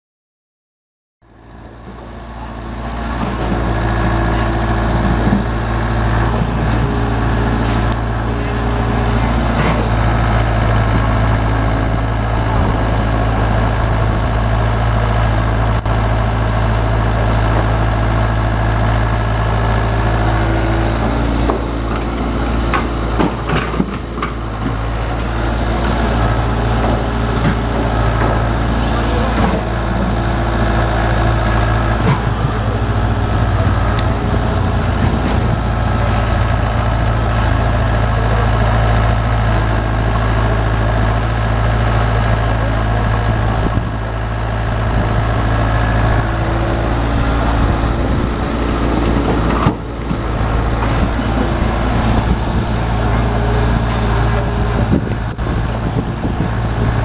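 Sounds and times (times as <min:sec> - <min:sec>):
diesel engine idling: 0:01.2 - 0:57.0.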